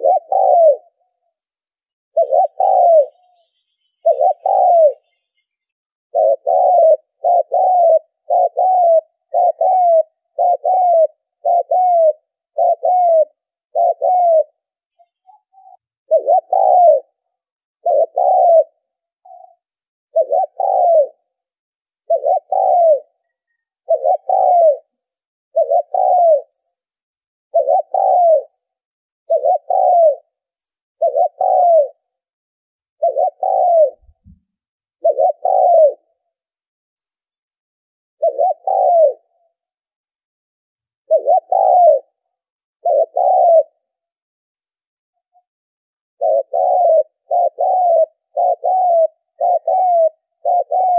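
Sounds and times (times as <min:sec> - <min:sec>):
dove cooing: 0:00.0 - 0:01.2, 0:02.1 - 0:21.4, 0:22.0 - 0:26.8, 0:27.5 - 0:32.3, 0:33.0 - 0:36.4, 0:38.2 - 0:39.8, 0:41.0 - 0:44.1, 0:46.2 - 0:50.9.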